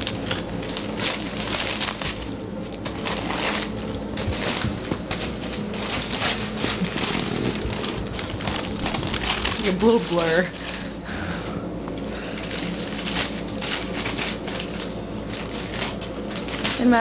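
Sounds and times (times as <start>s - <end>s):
wrapping paper crinkling and ripping: 0.0s - 11.1s, 11.9s - 17.0s.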